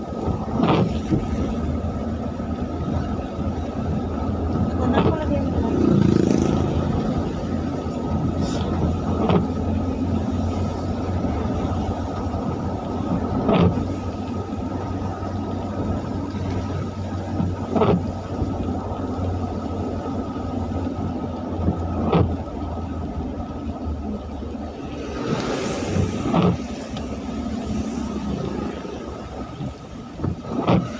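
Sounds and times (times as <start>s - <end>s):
tyres hissing on wet road: 0.0s - 30.9s
vehicle engine rumble: 0.0s - 30.9s.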